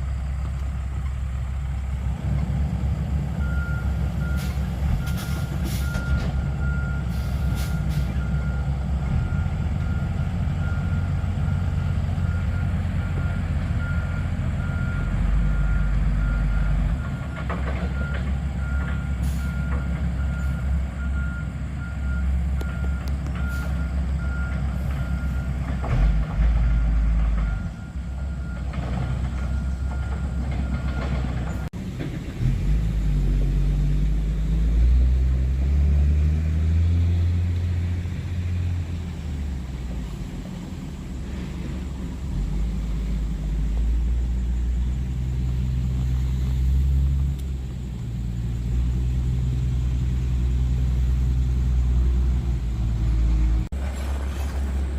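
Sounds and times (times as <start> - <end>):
diesel machine engine rumbling: 0.0 - 54.9.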